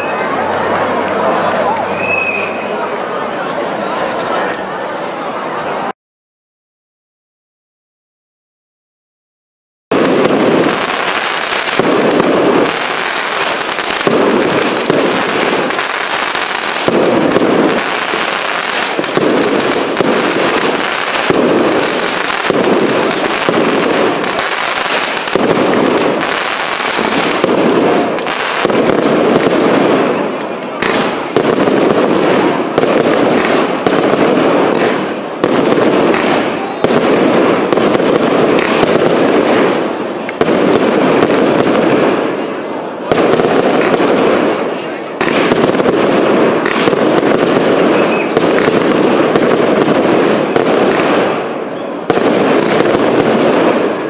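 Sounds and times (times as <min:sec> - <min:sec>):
deep fireworks bursts: 0:09.9 - 0:54.0.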